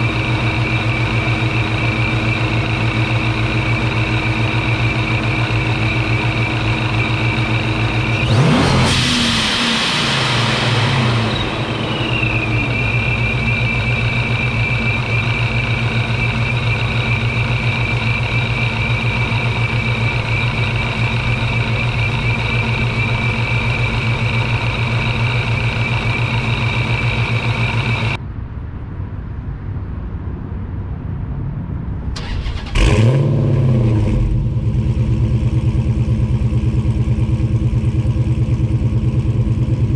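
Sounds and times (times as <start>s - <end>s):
car engine idling with whine: 0.0s - 28.2s, 32.2s - 39.9s
car engine revving: 0.0s - 28.2s, 32.2s - 39.9s.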